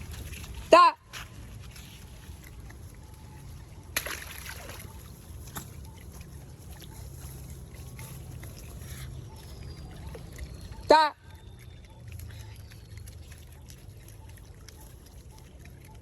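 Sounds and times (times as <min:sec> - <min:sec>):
low steady rumble: 0:00.0 - 0:16.0
water splashing and sloshing: 0:00.0 - 0:16.0.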